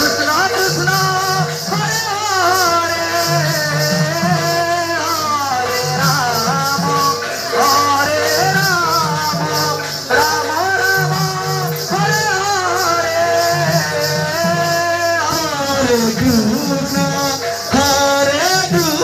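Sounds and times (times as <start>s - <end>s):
hand cymbals jingling: 0.0s - 19.0s
person singing melody: 0.0s - 19.0s.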